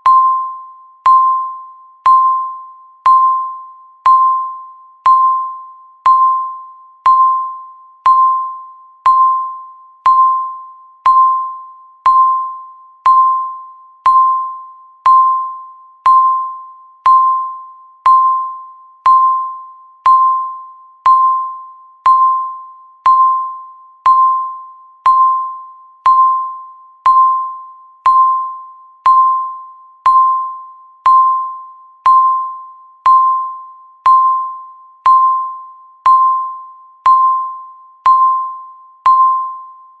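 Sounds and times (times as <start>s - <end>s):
countdown timer beeps: 0.0s - 40.0s.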